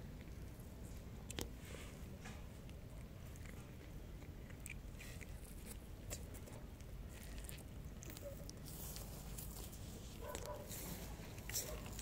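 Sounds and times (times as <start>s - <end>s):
cat crunching dry kibble: 0.0s - 1.8s, 2.4s - 12.0s
low background rumble: 0.0s - 12.0s.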